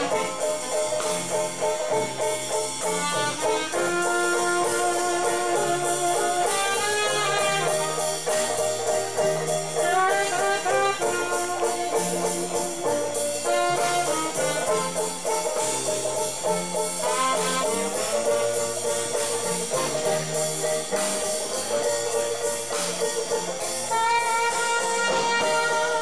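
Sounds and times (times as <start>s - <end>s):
horns playing jazz melody: 0.0s - 26.0s
walking bass line: 0.0s - 26.0s.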